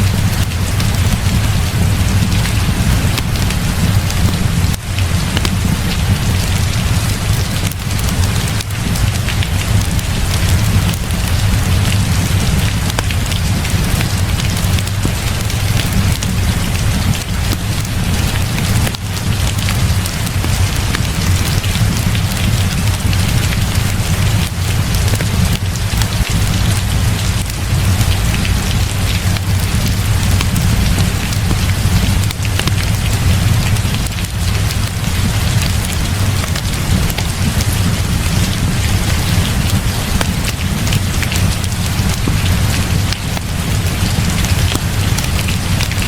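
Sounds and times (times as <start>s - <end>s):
heavy rain falling: 0.0s - 46.0s
wood fire crackling: 0.0s - 46.0s.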